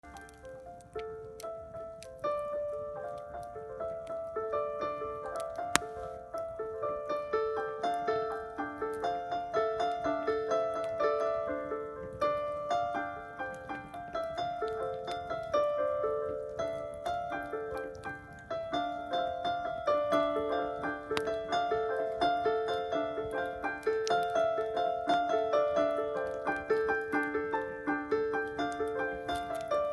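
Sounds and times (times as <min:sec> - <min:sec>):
slow keyboard melody: 0:00.0 - 0:29.9.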